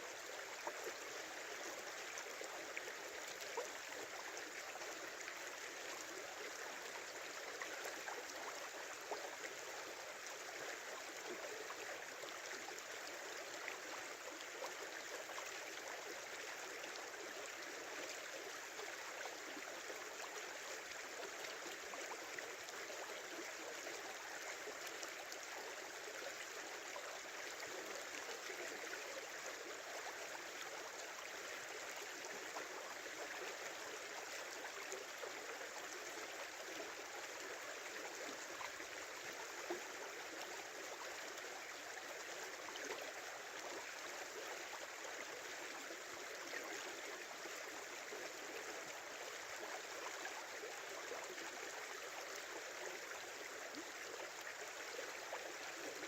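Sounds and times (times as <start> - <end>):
river water babbling: 0.0 - 56.0.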